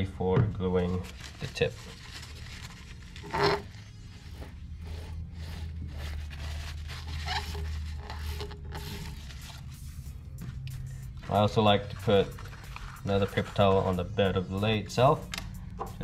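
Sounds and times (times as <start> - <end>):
paper towel rubbing and rustling: 0.7 - 10.4, 11.2 - 15.2.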